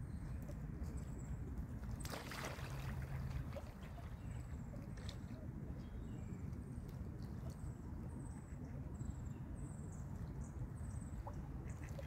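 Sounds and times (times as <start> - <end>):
low rumbling outdoor noise: 0.0 - 12.0.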